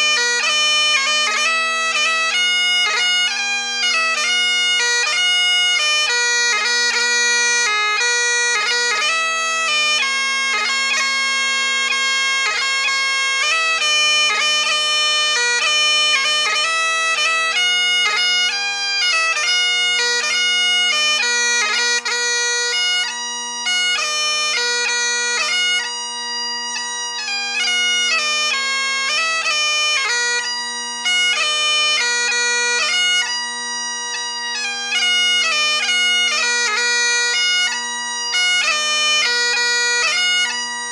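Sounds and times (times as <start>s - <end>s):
bagpipe playing a march: 0.0s - 40.9s.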